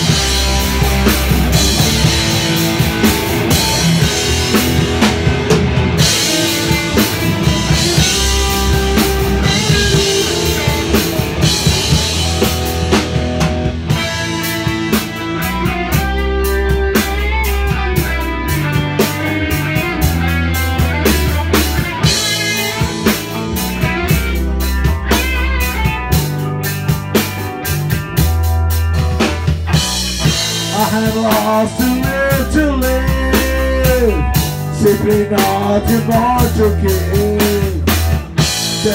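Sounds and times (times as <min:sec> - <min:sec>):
drum kit beat: 0:00.0 - 0:38.9
electric guitars: 0:00.0 - 0:38.9
rock band playing: 0:00.0 - 0:38.9.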